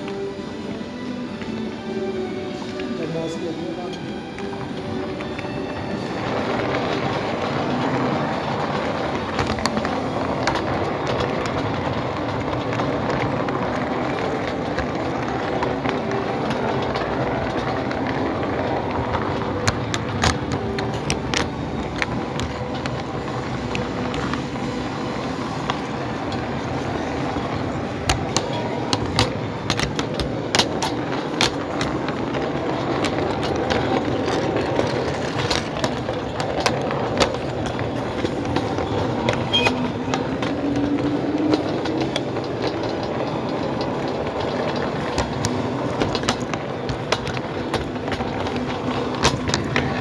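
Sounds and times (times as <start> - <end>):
model train rolling rumble: 0.0 - 50.0
train wheels clicking over rail joints: 0.0 - 50.0.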